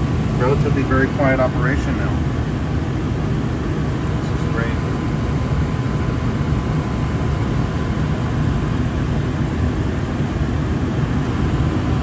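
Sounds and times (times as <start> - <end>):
faint high whine: 0.0 - 10.2
furnace blower rumble: 0.0 - 12.0.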